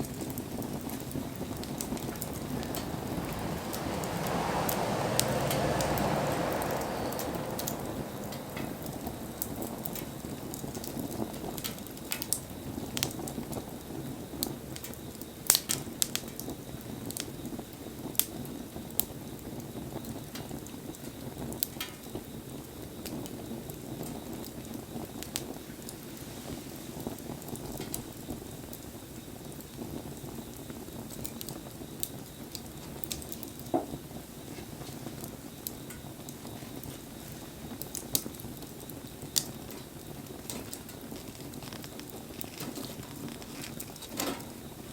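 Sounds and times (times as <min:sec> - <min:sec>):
campfire low rushing: 0:00.0 - 0:44.9
fire popping and ticking: 0:00.0 - 0:44.9
rain falling: 0:00.0 - 0:44.9.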